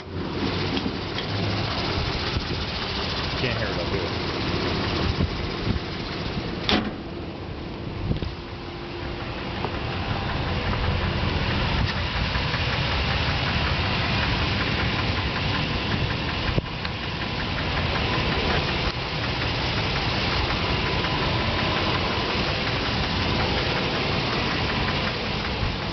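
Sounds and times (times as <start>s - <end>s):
engine running with knocking: 0.0s - 25.9s.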